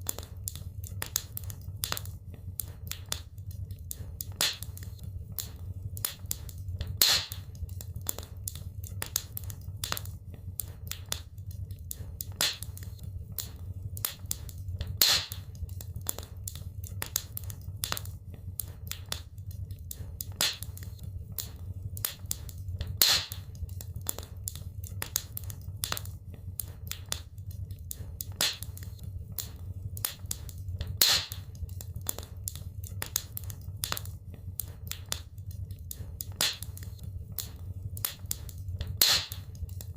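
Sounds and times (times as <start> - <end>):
fire popping: 0.0 - 39.9
low steady rumble: 0.0 - 39.9
wood fire crackling: 0.0 - 39.9.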